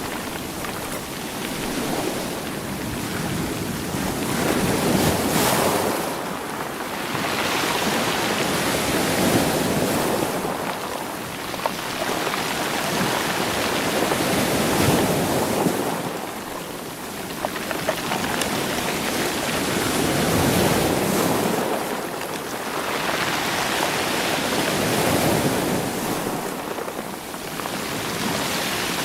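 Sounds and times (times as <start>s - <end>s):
sea waves washing over rocks: 0.0s - 29.0s.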